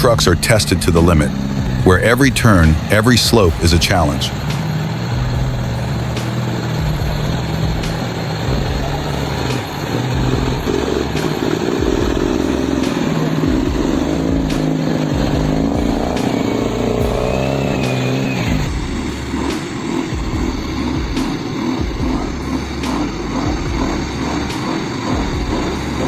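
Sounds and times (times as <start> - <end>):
music with regular beat: 0.0 - 26.0
truck engine under load: 0.0 - 26.0.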